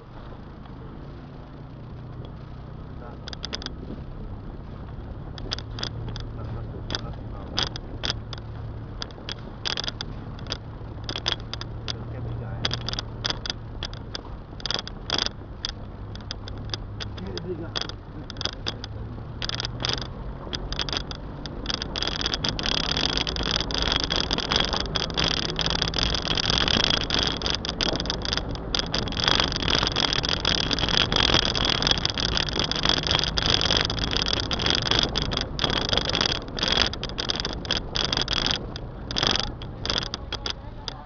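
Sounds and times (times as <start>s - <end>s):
car engine and road noise: 0.0s - 41.0s
knocks and crackles: 0.0s - 41.0s.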